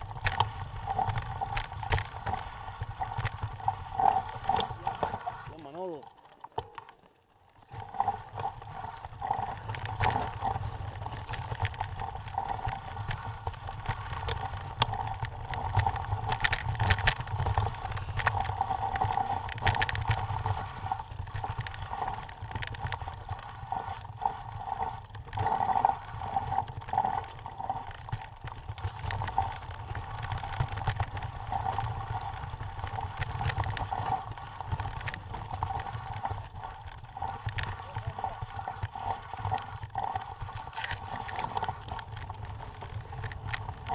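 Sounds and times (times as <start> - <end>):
bike frame rattling: 0.0 - 43.9.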